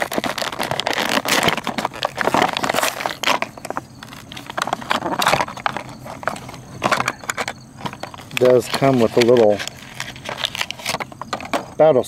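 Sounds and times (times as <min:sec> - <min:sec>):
plastic packaging being torn open: 0:00.0 - 0:11.6.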